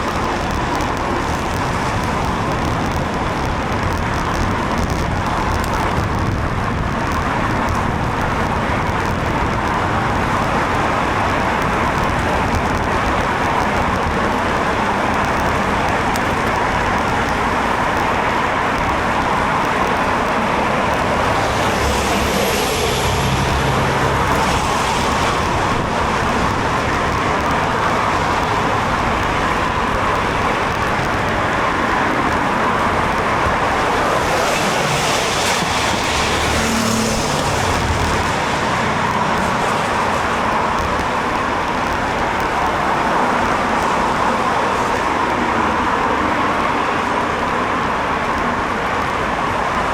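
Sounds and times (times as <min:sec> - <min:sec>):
road traffic noise: 0:00.0 - 0:49.9
vehicles passing: 0:00.0 - 0:49.9.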